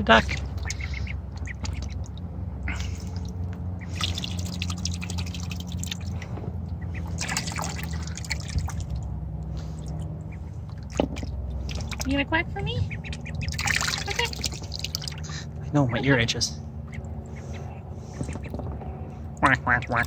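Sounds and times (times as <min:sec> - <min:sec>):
ducklings splashing in water: 0:00.0 - 0:20.0
steady low hum: 0:00.0 - 0:20.0.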